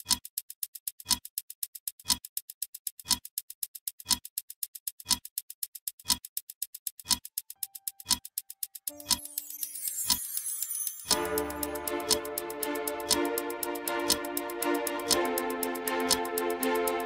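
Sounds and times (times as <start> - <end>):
clock ticking: 0.0 - 17.0
deeper clock tick: 0.0 - 17.0.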